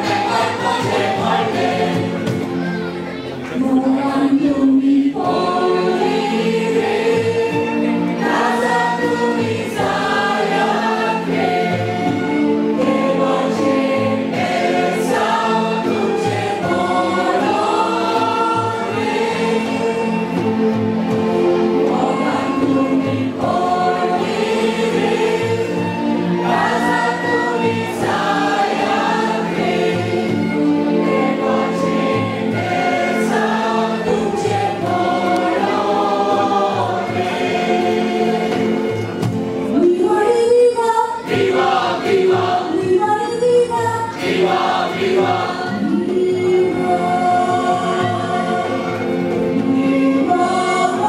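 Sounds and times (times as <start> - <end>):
hand drum: 0.0 - 3.0, 4.2 - 40.6, 41.2 - 51.0
mixed choir singing: 0.0 - 40.4, 41.2 - 51.0
keyboard: 0.0 - 51.0
violin: 0.0 - 51.0.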